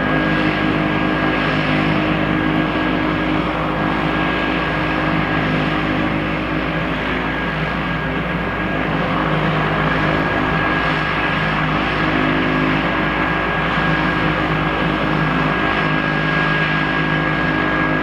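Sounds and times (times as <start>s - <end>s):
turboprop engine idling: 0.0s - 18.0s.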